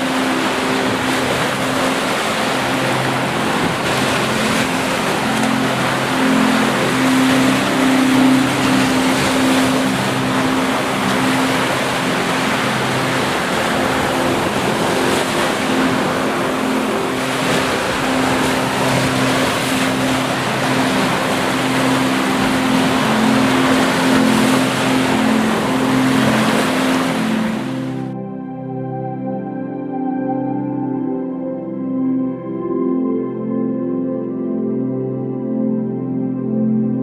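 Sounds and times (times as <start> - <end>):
ambient music low tones: 0.0 - 37.0.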